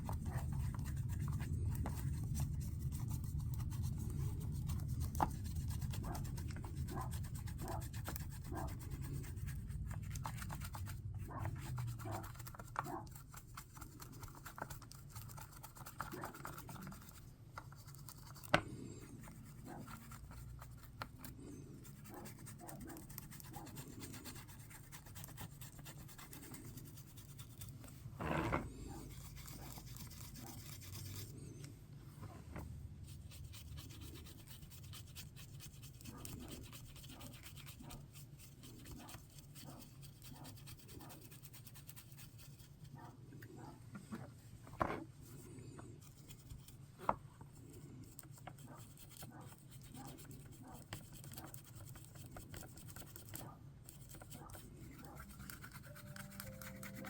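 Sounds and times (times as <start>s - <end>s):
brush scratching strokes: 0.0s - 31.6s, 32.3s - 43.8s, 45.1s - 57.0s.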